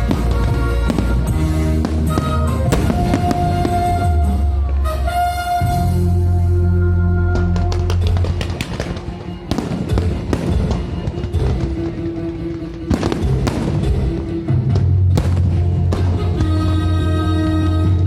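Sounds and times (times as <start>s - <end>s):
fireworks bursting and crackling: 0.0s - 5.2s, 7.3s - 18.0s
music with low bass: 0.0s - 8.6s, 9.5s - 18.0s.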